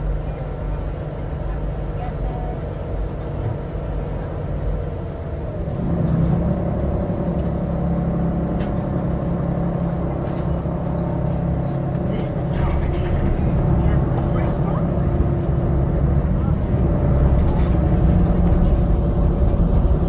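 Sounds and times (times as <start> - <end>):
ferry diesel engines humming: 0.0 - 20.0.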